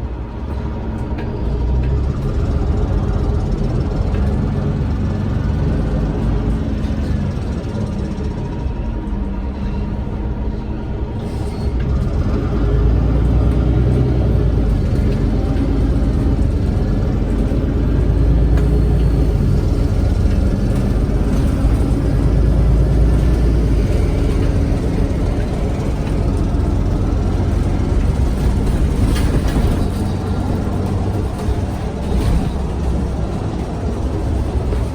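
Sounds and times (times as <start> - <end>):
bus engine rumble: 0.0 - 34.9.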